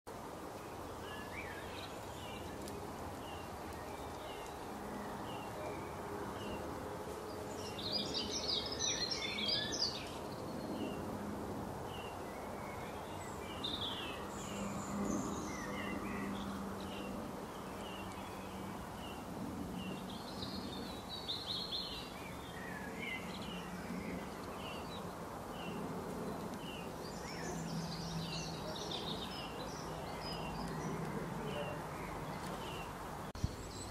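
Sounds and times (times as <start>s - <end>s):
birds chirping: 0.1s - 33.9s
steady background hiss: 0.1s - 33.9s
birds twittering: 0.6s - 11.2s, 11.8s - 33.9s.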